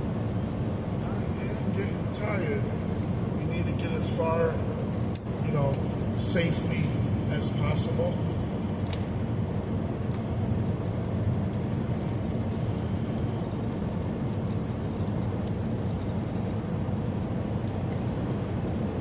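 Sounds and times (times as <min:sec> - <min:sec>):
truck cab road and engine rumble: 0:00.0 - 0:19.0.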